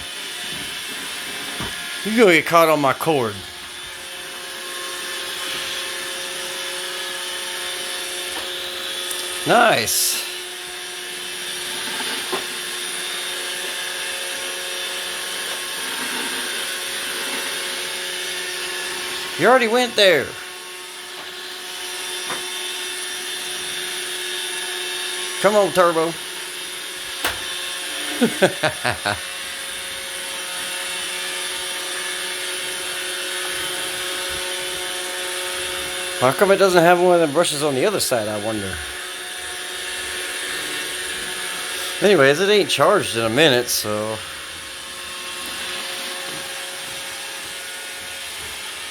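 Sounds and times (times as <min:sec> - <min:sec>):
robot vacuum whirring: 0:00.0 - 0:48.9.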